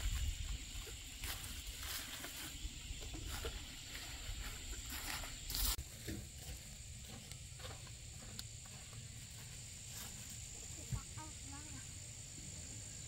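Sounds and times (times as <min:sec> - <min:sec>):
rustling and crackling of vines: 0:00.0 - 0:11.1.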